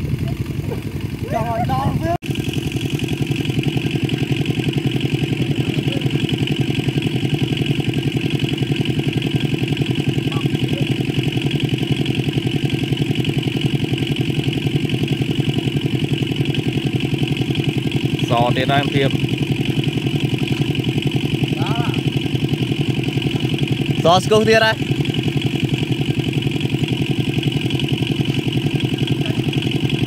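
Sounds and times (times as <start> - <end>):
small engine chugging: 0.0 - 30.0.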